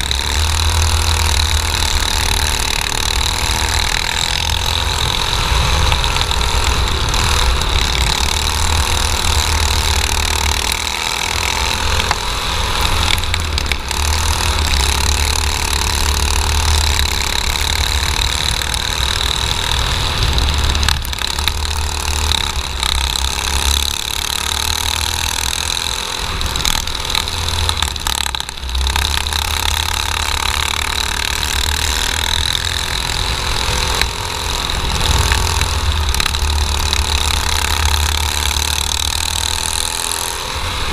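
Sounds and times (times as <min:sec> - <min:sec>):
kart engine running flat out: 0:00.0 - 0:40.9.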